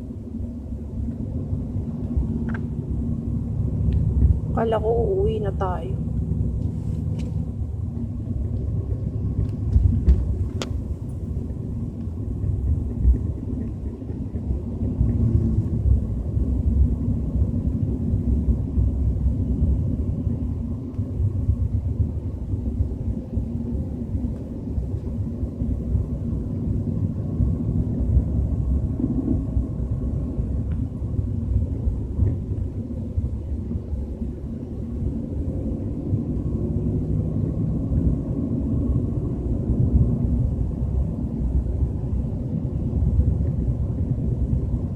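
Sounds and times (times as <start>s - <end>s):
low rumbling in car cabin: 0.0s - 44.9s
road and engine noise: 0.0s - 44.9s.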